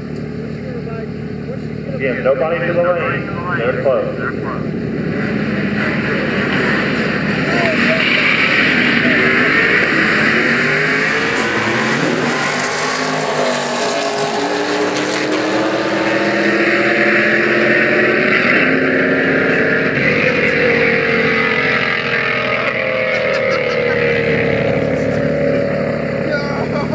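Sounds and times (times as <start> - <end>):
drag racing cars accelerating: 0.0 - 26.9.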